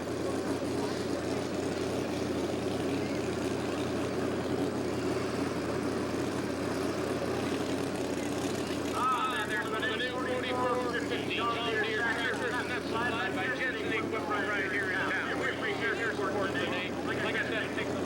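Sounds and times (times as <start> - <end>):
tractor engine running steadily: 0.0 - 18.0.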